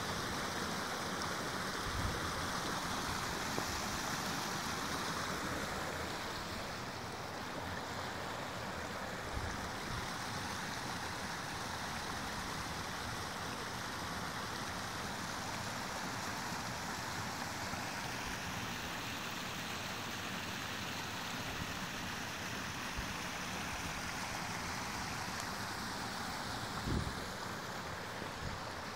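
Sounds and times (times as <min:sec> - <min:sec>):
stream pouring over rocks: 0:00.0 - 0:28.9.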